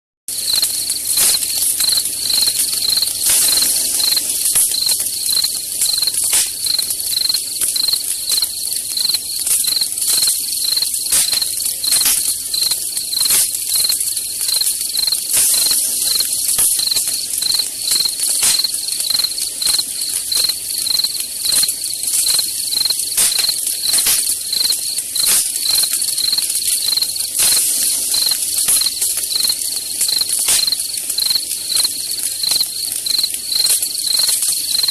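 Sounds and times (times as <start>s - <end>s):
campfire crackling and popping: 0.3s - 34.9s
crickets chirping: 0.3s - 34.9s.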